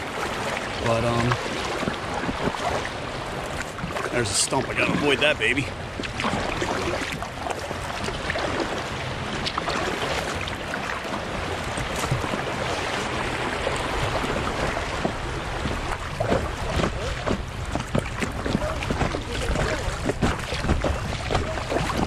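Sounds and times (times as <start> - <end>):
paddle splashes: 0.0 - 22.0
river water splashing: 0.0 - 22.0.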